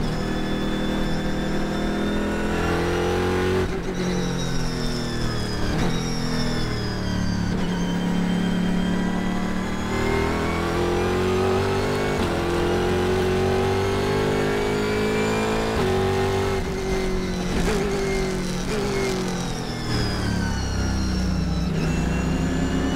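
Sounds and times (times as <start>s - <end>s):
gear changes: 0.0s - 22.9s
race car engine accelerating: 0.0s - 22.9s.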